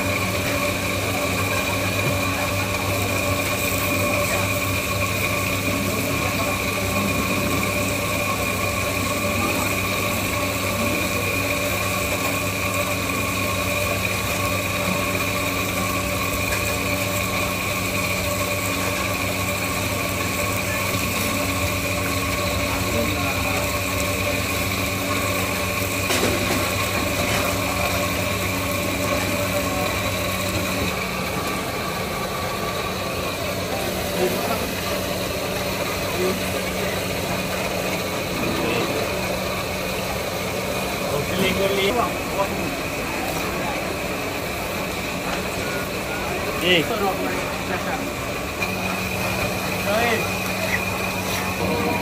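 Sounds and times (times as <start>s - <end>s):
steady mechanical hum: 0.0s - 52.0s.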